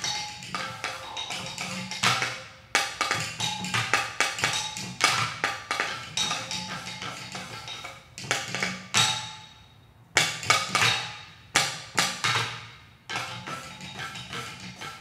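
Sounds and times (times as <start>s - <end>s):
clay pots struck rhythmically: 0.0s - 15.0s.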